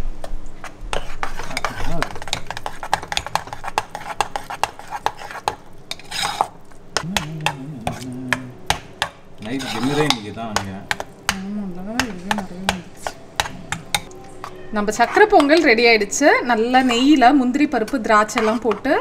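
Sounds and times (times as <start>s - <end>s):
metal spoon scraping pot: 0.9s - 17.2s, 18.1s - 19.0s.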